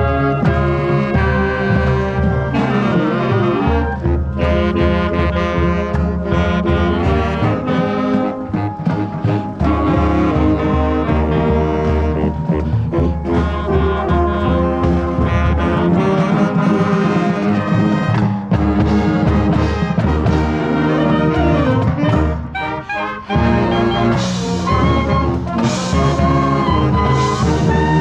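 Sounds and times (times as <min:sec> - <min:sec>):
loud brass: 0:00.0 - 0:28.0
marching band playing: 0:00.0 - 0:28.0.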